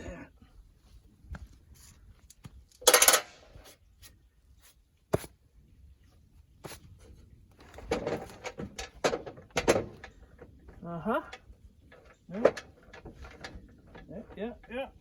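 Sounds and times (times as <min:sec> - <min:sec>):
rustling and scraping: 0:00.7 - 0:05.4, 0:06.0 - 0:15.0.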